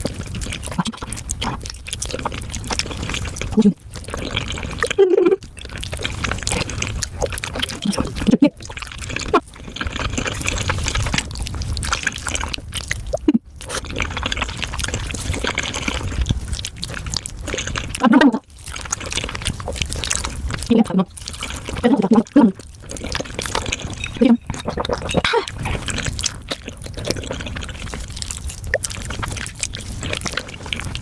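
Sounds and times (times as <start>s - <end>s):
wet chewing and slurping: 0.0s - 31.0s.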